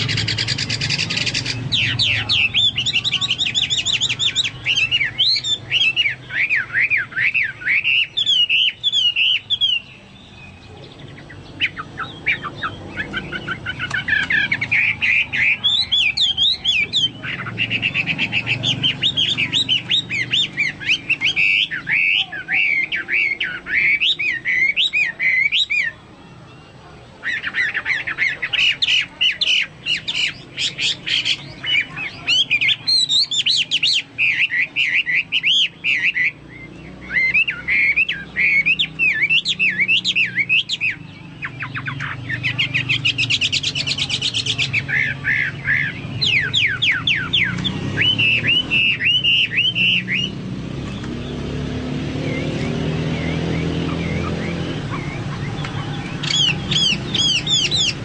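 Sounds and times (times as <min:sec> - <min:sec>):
bird singing warbled notes: 0:00.0 - 0:58.0.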